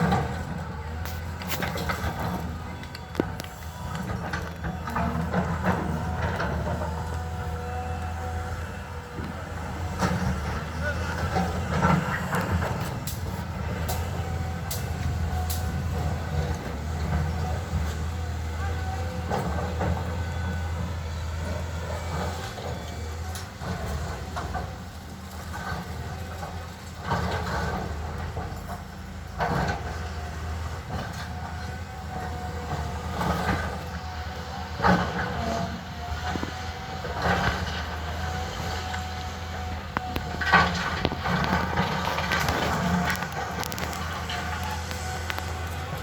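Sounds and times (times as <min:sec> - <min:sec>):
excavator engine running: 0:00.0 - 0:46.0.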